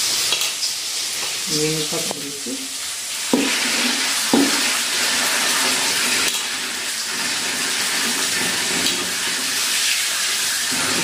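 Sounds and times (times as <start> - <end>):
tap water splashing on rice: 0.0 - 2.3, 3.2 - 11.0.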